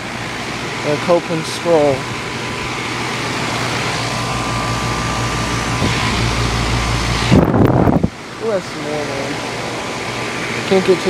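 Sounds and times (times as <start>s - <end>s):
air conditioner fan blowing: 0.0s - 11.0s
compressor humming: 0.0s - 11.0s.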